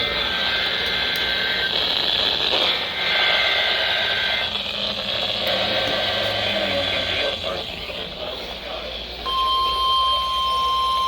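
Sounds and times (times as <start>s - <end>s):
radio static hiss: 0.0s - 9.2s.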